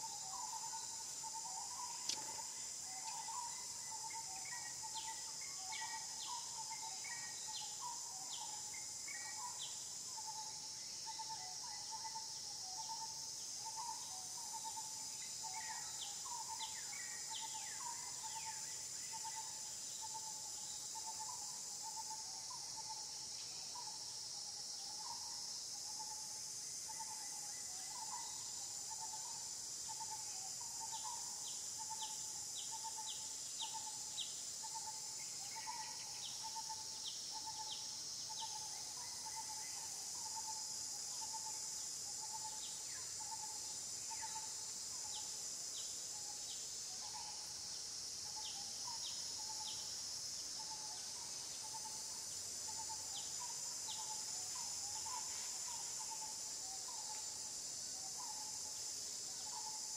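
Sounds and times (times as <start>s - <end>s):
high-pitched insect buzz: 0.0s - 59.9s
short repeated insect call: 0.0s - 59.9s.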